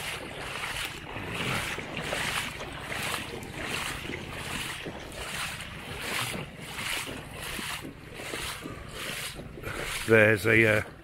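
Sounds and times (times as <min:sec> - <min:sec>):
footsteps wading through water: 0:00.0 - 0:11.0.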